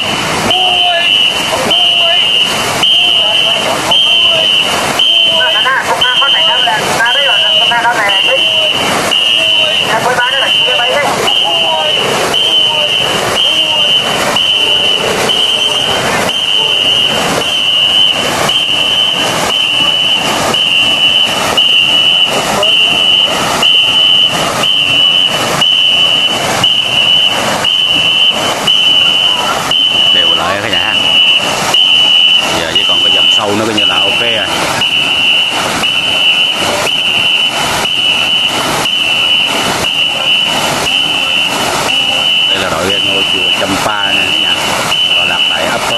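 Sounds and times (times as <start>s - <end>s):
paddles splashing through water: 0.0s - 45.9s
whistle blasts: 0.0s - 45.9s.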